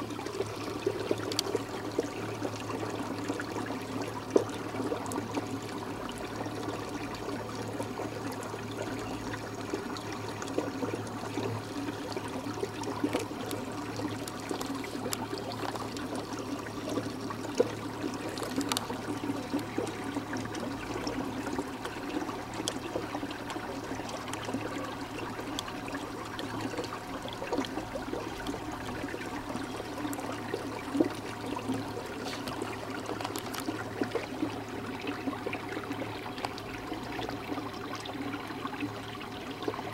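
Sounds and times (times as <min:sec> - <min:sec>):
small splashes: 0:00.0 - 0:38.6
lake water lapping and trickling: 0:00.0 - 0:39.9.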